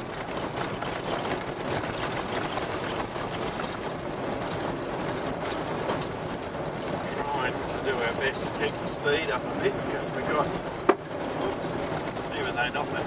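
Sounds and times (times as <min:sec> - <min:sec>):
vehicle road noise: 0:00.0 - 0:13.0.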